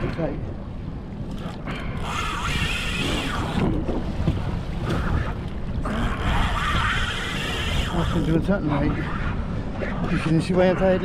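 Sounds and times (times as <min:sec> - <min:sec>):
sea water washing: 0:00.0 - 0:11.0
wind buffeting microphone: 0:00.0 - 0:11.0.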